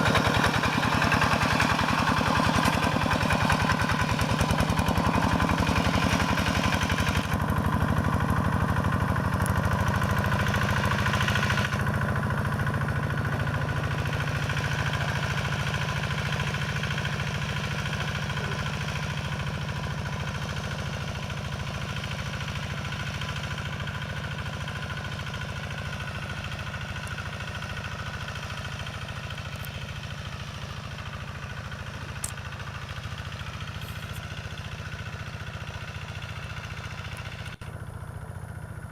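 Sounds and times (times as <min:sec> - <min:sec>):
hand tractor diesel engine running: 0:00.0 - 0:38.9.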